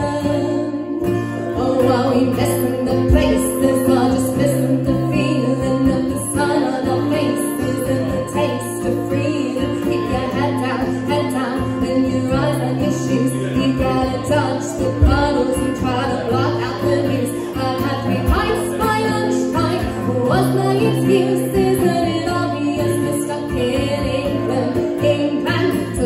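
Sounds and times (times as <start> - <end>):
acoustic guitar: 0.0 - 26.0
ukulele: 0.0 - 26.0
woman singing: 0.0 - 26.0.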